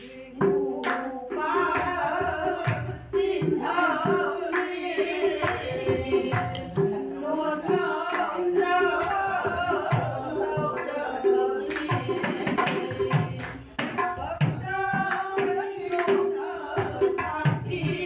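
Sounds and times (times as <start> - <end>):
percussion beat: 0.0 - 18.0
women singing together: 0.0 - 18.0.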